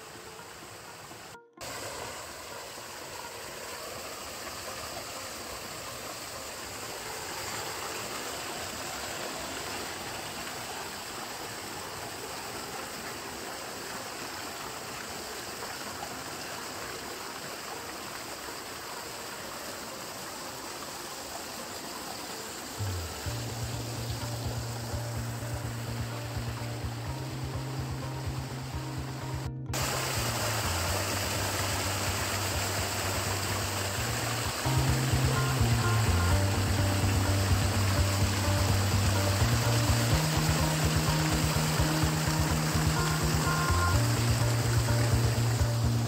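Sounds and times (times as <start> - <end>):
stream water rushing over rocks: 0.0 - 46.0.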